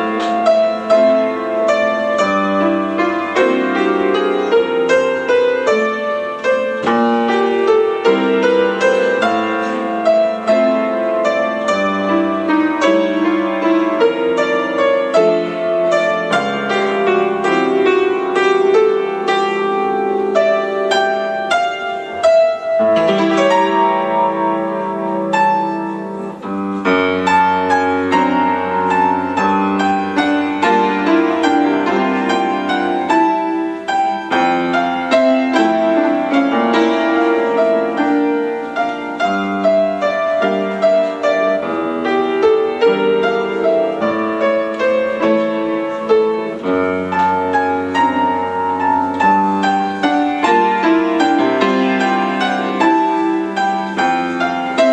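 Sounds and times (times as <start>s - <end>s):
background piano music: 0.0s - 54.9s.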